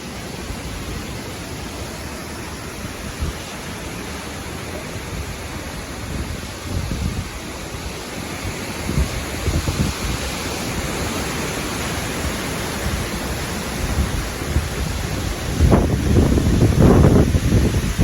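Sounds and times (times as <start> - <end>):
strong wind blowing: 0.0 - 18.0
wind buffeting microphone: 0.0 - 18.0.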